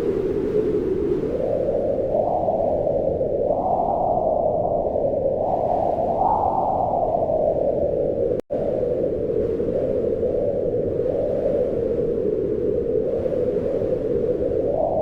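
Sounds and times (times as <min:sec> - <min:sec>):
low deep wind blowing in gusts: 0:00.0 - 0:15.0.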